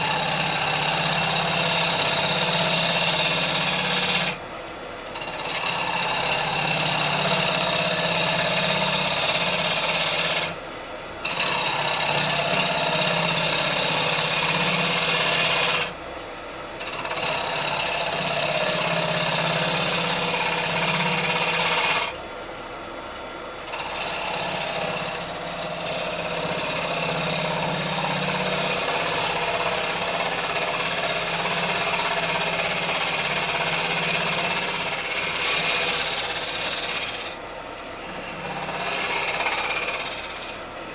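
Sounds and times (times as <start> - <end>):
lathe gouge scraping wood: 0.0 - 4.4, 5.1 - 10.6, 11.2 - 16.0, 16.8 - 22.2, 23.7 - 37.4, 38.0 - 40.9.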